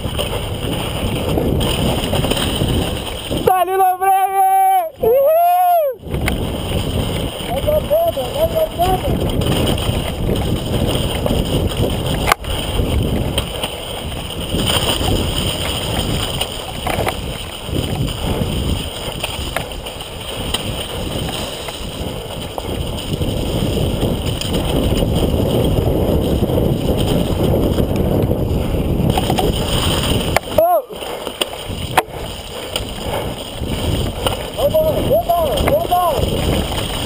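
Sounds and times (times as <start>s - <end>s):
tyres rushing on mud: 0.0s - 37.0s
wind on microphone: 0.0s - 37.0s.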